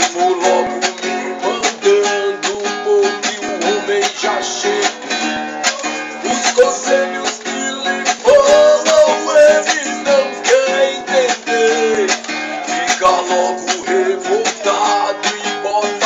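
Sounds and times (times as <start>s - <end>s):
instrumental melody line: 0.0s - 16.0s
strummed guitar: 0.0s - 16.0s.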